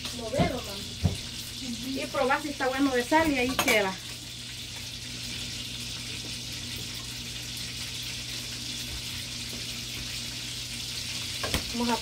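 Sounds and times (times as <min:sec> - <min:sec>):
margarine sizzling in a pan: 0:00.0 - 0:12.0.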